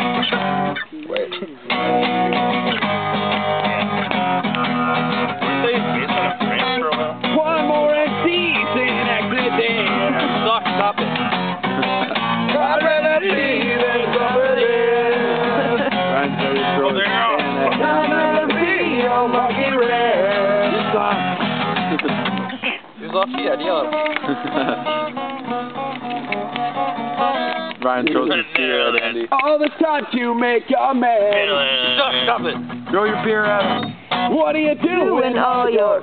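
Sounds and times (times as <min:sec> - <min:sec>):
loud guitar-led music: 0:00.0 - 0:36.0.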